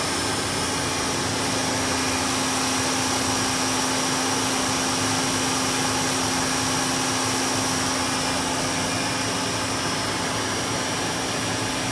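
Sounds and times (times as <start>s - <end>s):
water pump hissing and humming: 0.0s - 11.9s.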